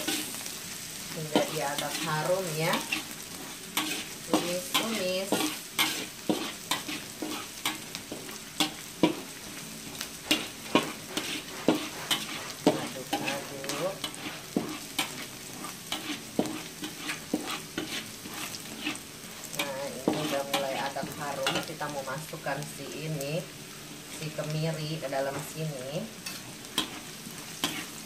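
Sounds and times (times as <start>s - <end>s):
shallots sizzling in hot oil: 0.0s - 28.0s.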